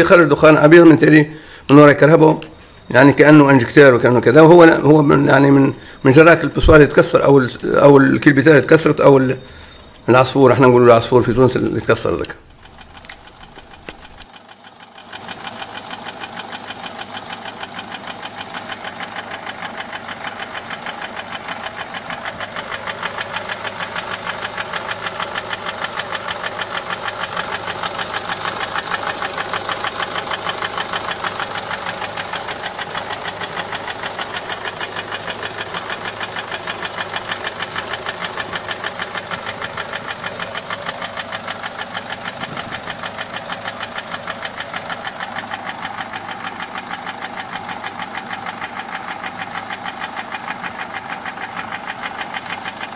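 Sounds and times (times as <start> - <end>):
diesel engine running: 0.0 - 52.9
fast metallic engine ticking: 0.0 - 52.9.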